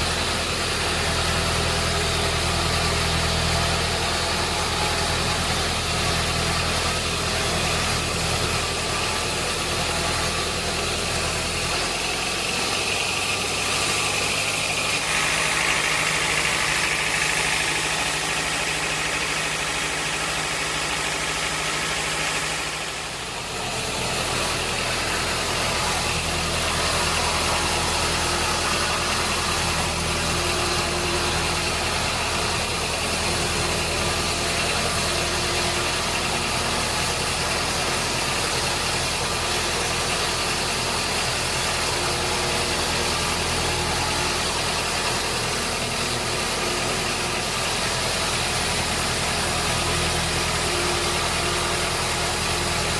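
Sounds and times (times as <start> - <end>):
high machine whine: 0.0 - 52.9
sawmill machinery motor drone: 0.0 - 52.9.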